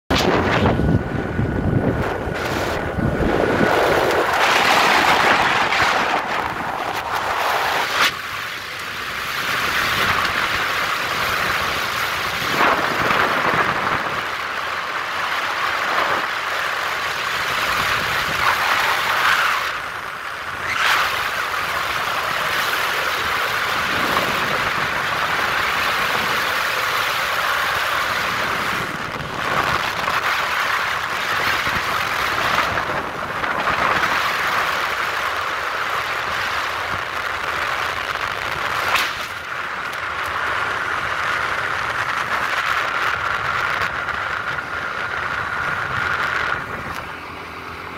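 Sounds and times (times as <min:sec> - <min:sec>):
rushing wind: 0:00.0 - 0:47.9
scooter road noise: 0:00.1 - 0:47.9.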